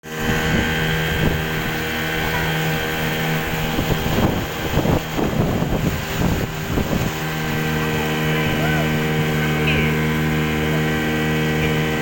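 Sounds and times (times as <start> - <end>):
boat engine humming: 0.0 - 12.0
wind noise on microphone: 0.0 - 12.0.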